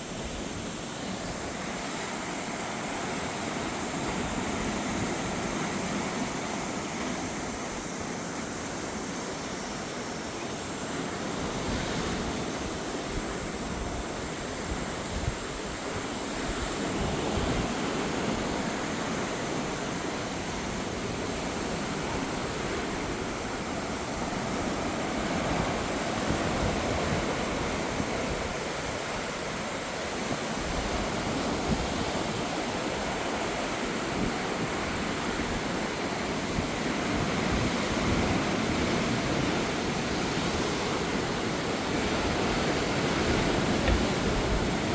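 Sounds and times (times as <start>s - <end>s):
sea waves washing ashore: 0.0s - 44.9s
wind: 0.0s - 44.9s.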